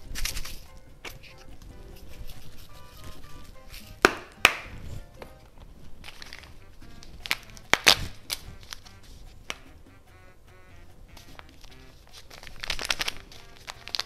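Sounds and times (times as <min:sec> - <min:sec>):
crinkling: 0:00.0 - 0:14.0
soft background music: 0:00.0 - 0:14.0.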